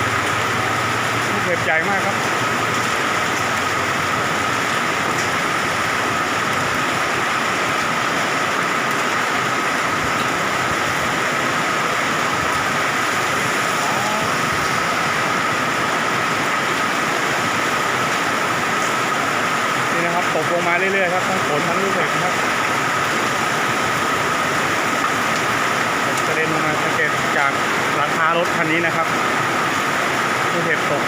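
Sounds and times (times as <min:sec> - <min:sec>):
heavy rain and hail pelting: 0:00.0 - 0:31.0.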